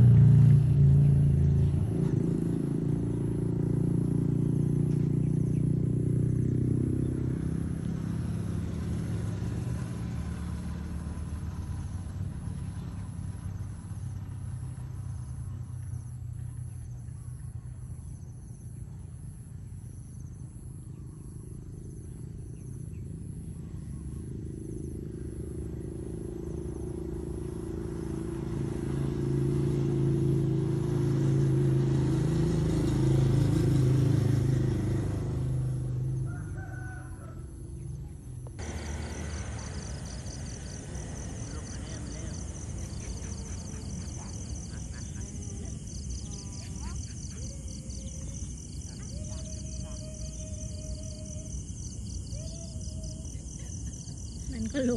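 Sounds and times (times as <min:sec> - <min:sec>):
low engine hum: 0:00.0 - 0:54.9.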